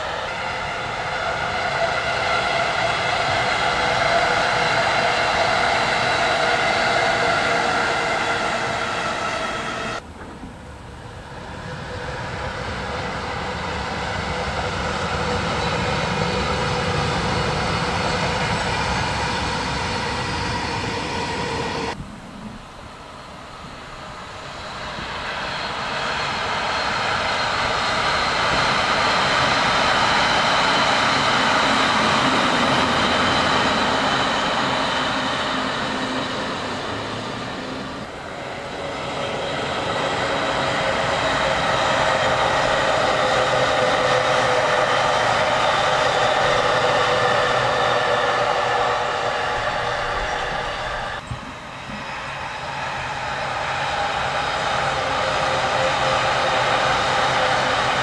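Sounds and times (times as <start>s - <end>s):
electric commuter train passing: 0.0s - 58.0s
freight train rumbling past: 0.0s - 58.0s.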